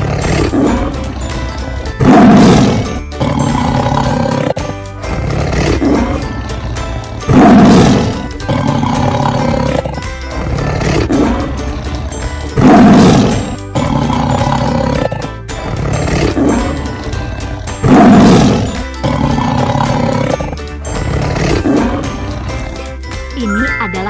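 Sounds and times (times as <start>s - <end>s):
tiger roaring: 0.0s - 22.9s
background music: 0.0s - 24.0s.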